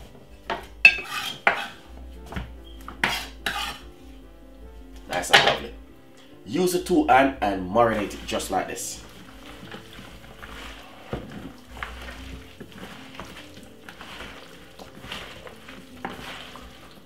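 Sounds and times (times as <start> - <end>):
wet squishing of food mixing: 0.0 - 17.0.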